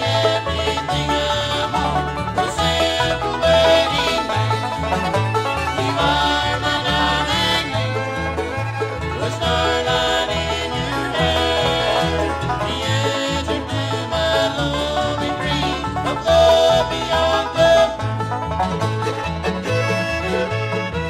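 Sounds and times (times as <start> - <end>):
banjo: 0.0 - 21.0
bass: 0.0 - 21.0
guitar: 0.0 - 21.0.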